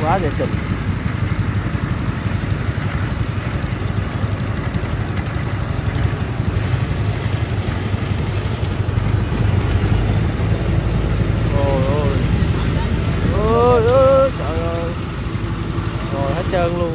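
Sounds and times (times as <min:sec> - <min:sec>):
harvester engine throbbing: 0:00.0 - 0:16.9.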